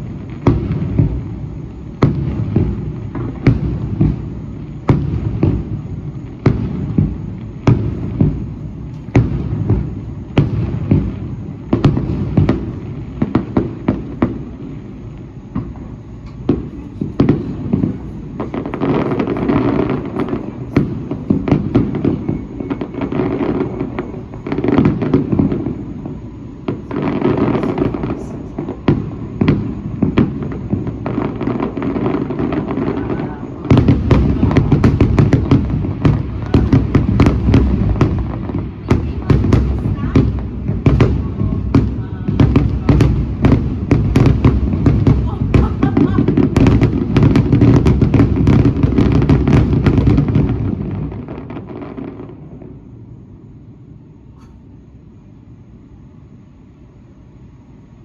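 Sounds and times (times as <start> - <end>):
fireworks bangs and crackles: 0.0 - 56.3.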